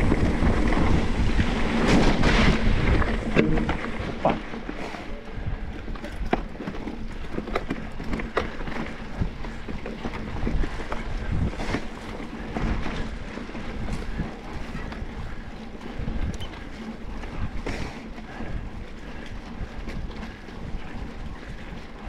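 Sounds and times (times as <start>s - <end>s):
bike clicks and knocks: 0.0s - 22.0s
wind buffeting microphone: 0.0s - 22.0s.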